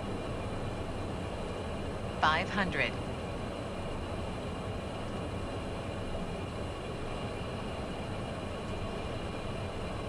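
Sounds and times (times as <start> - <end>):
jet cockpit airflow and engine hum: 0.0 - 10.0.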